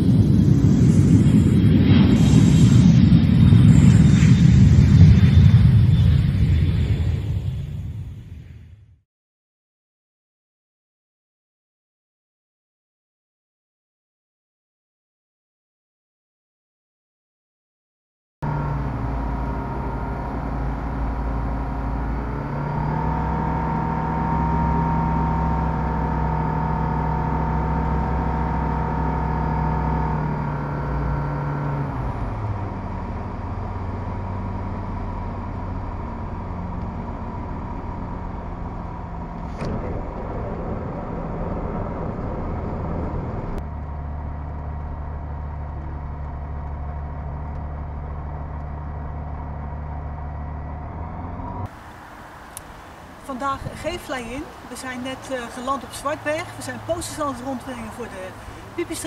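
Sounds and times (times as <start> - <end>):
light aircraft engine and propeller: 0.0 - 8.5, 18.4 - 59.0.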